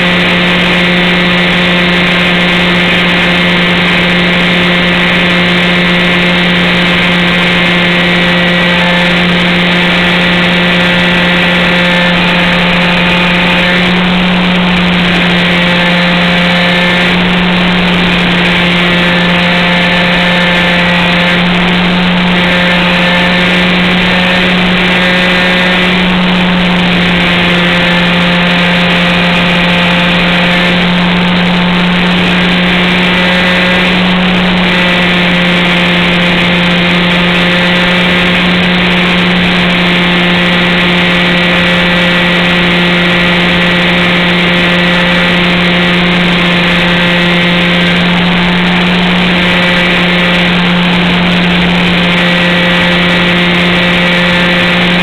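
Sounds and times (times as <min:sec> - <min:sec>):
model airplane motor and propeller: 0:00.0 - 0:55.0
rushing air noise: 0:00.0 - 0:55.0.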